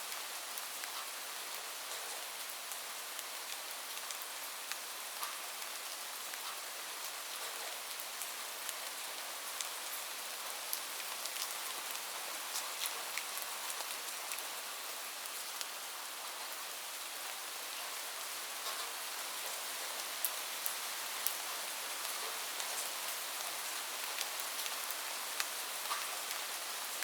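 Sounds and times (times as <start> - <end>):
steady rain hiss: 0.0 - 27.0
raindrops ticking on surface: 0.1 - 14.6, 18.6 - 27.0.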